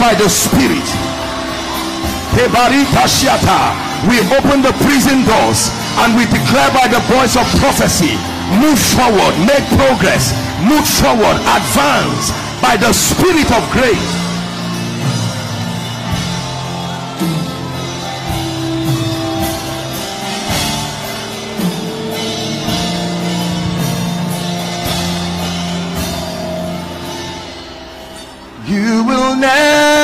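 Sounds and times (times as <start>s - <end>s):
held keyboard chords: 0.0s - 30.0s.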